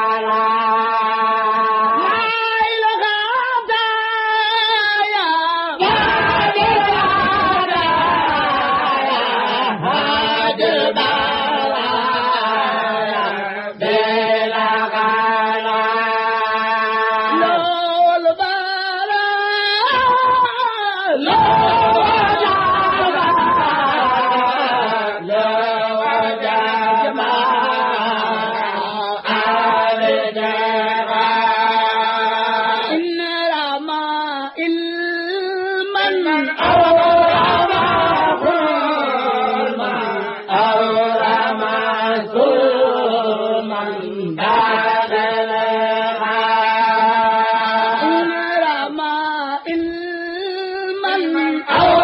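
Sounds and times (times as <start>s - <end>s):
person chanting devotional poem: 0.0s - 52.0s.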